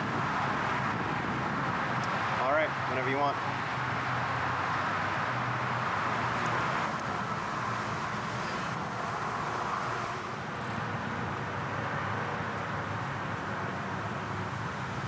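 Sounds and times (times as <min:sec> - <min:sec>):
distant road traffic wash: 0:00.0 - 0:15.0.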